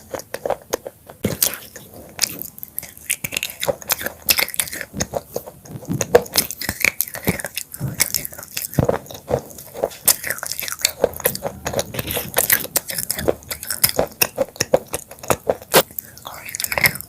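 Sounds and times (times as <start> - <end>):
chewing crunchy chips: 0.0 - 17.0.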